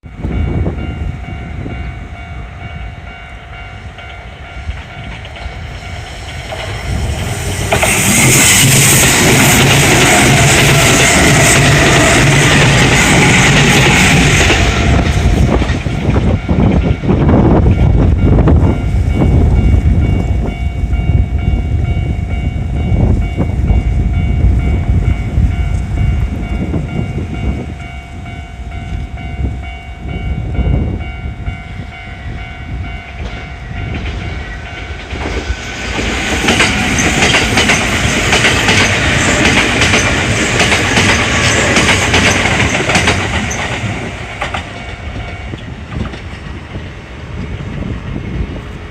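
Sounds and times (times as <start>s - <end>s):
level crossing warning bell ringing: 0.0s - 45.9s
electric train rumbling past: 0.0s - 48.9s
train wheel noise rushing: 0.2s - 48.9s.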